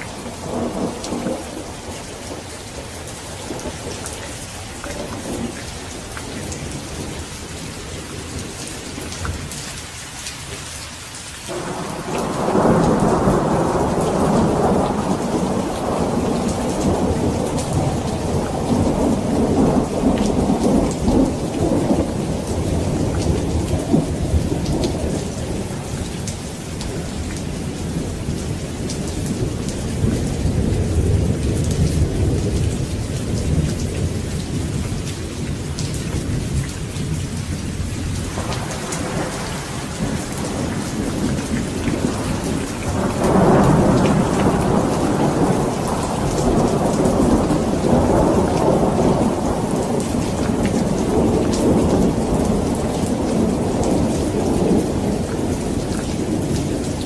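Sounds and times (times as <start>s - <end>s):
rolling thunder: 0.0s - 9.5s, 11.5s - 57.0s
steady rain: 0.0s - 57.0s.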